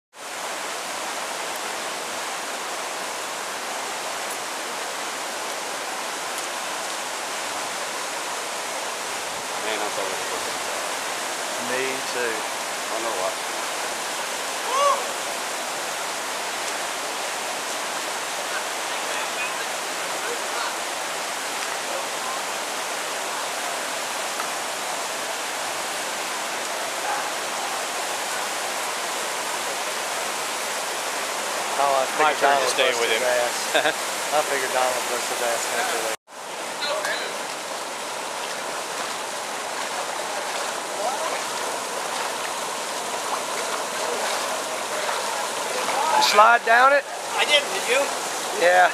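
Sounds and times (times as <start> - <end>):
creek rushing over ledges: 0.1 - 48.9.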